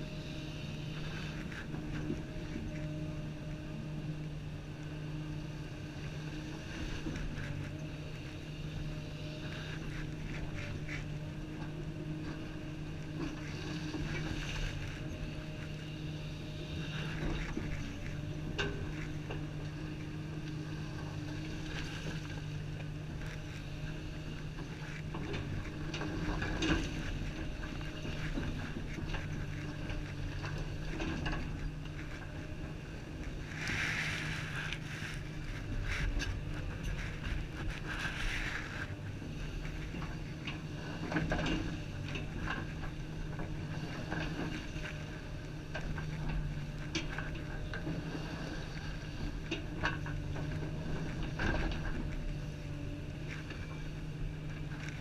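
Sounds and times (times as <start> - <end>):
excavator diesel engine running: 0.0 - 55.0
hydraulics working: 0.0 - 55.0.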